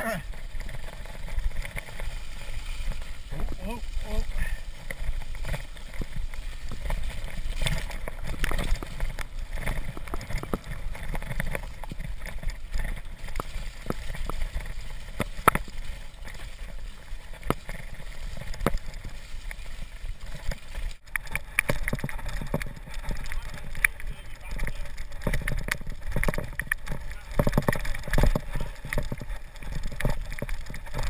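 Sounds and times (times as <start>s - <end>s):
bike rattling and knocking: 0.0s - 31.0s
tyres splashing through snow: 0.0s - 31.0s.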